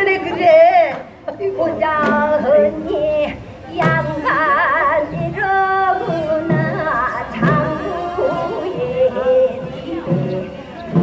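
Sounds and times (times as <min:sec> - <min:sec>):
folk singing with vibrato: 0:00.0 - 0:11.0
low drum strokes: 0:00.9 - 0:11.0.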